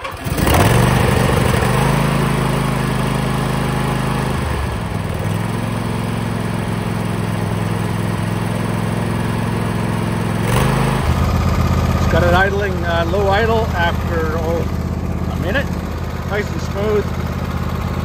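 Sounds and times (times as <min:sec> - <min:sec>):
lawn tractor engine running: 0:00.0 - 0:18.0.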